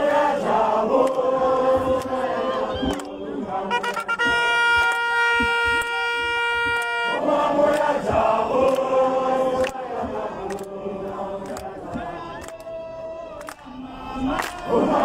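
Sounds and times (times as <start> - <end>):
crowd singing or chanting: 0.0 - 15.0.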